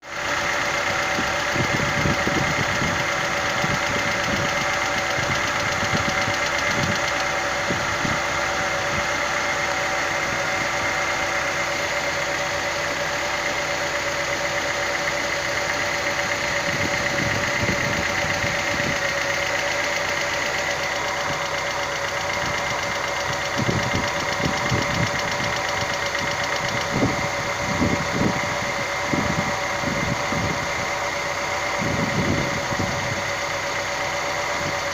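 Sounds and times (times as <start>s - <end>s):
car engine idling with ticking: 0.0s - 34.9s.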